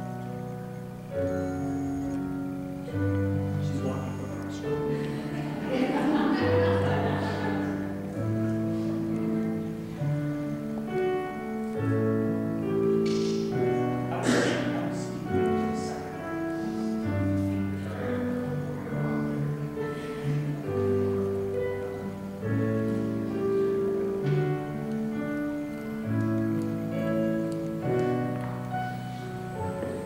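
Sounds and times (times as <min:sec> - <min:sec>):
slow instrumental music: 0:00.0 - 0:30.0.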